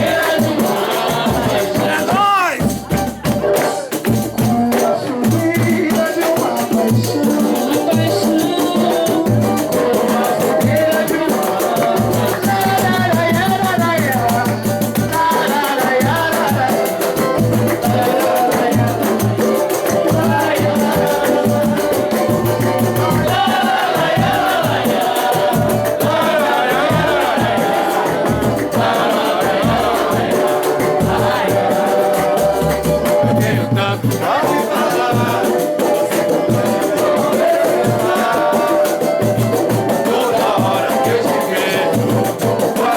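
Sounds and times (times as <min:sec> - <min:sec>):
samba band playing: 0:00.0 - 0:42.9
shaker beat: 0:00.0 - 0:42.9
voices singing: 0:00.0 - 0:42.9.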